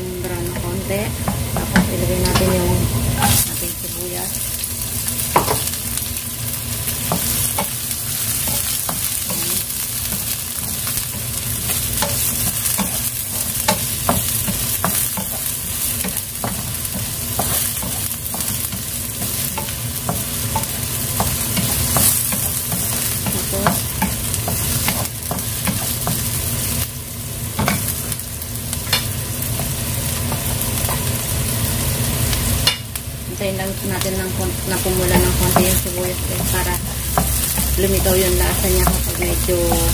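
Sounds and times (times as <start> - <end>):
garlic and onion sizzling: 0.0 - 39.9.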